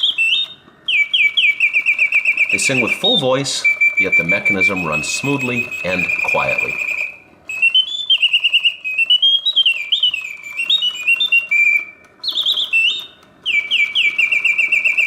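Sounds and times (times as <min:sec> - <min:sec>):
mechanical bird song whistle: 0:00.0 - 0:15.0.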